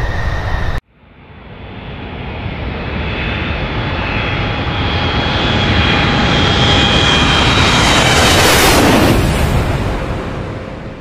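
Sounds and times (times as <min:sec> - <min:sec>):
jet airliner taking off: 0:00.0 - 0:11.0.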